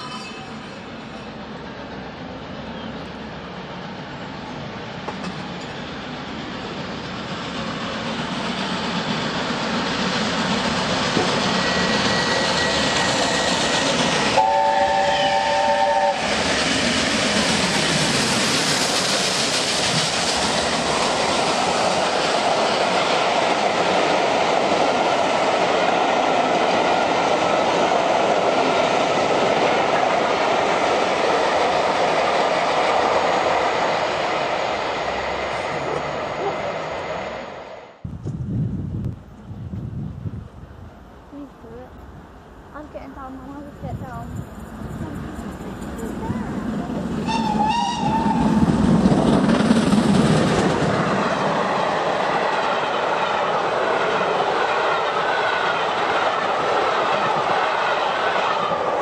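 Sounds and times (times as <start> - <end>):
steam locomotive passing: 0.0 - 59.0.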